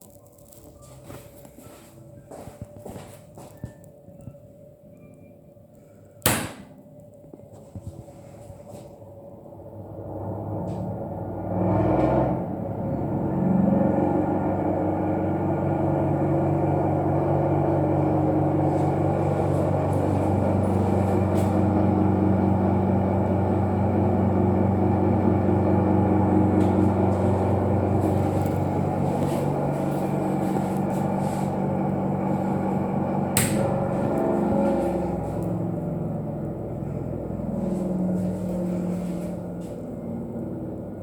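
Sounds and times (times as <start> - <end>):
ventilation fan droning: 0.0 - 41.0.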